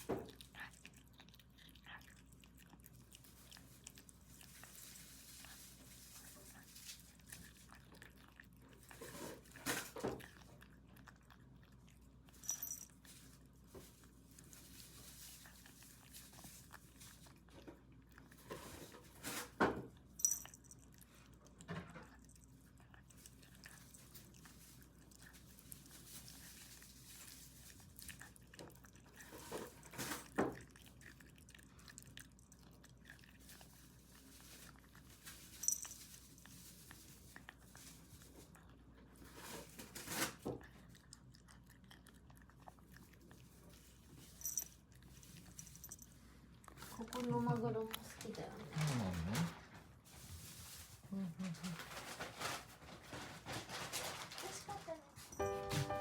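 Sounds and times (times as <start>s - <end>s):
cat chewing food: 0.0s - 56.0s.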